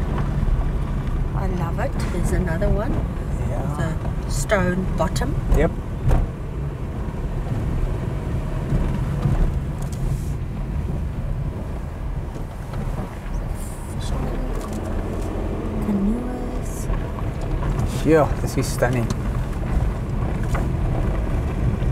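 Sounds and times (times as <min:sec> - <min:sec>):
low rumble of engine and tyres: 0:00.0 - 0:21.9.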